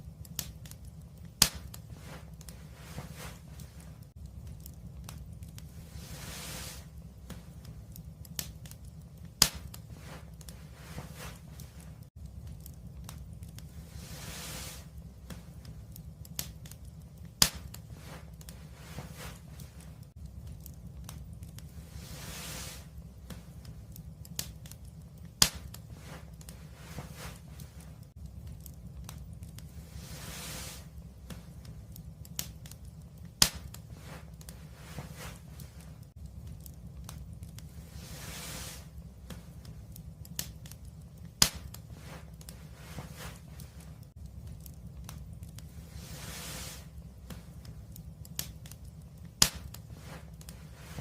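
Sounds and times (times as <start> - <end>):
fire crackles: 0.0 - 51.0
wood fire burning: 0.0 - 51.0.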